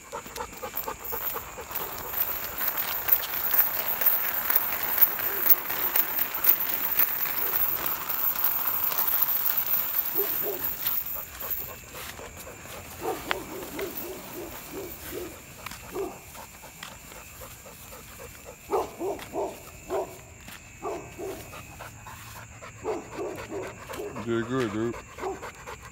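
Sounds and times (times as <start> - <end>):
dog panting and whining: 0.0 - 19.1, 20.8 - 25.9.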